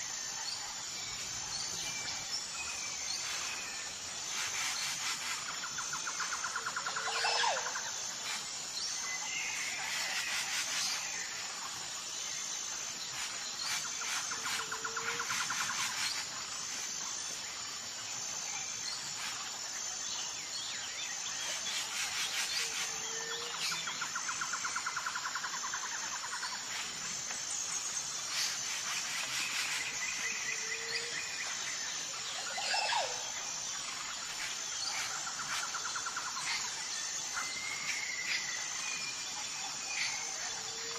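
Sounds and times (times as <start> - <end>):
bird calls and trills: 0.0 - 40.9
insects buzzing: 0.0 - 40.9.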